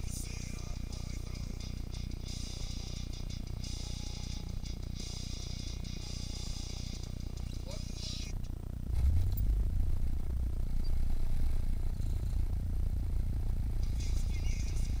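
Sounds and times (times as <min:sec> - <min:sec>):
car engine idling: 0:00.3 - 0:15.0.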